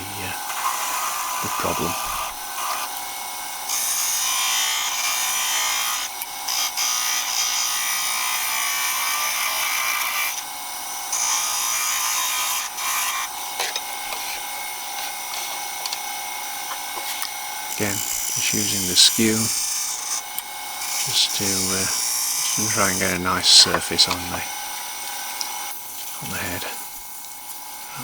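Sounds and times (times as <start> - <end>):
chisel shaving wood on a lathe: 0.0 - 26.6.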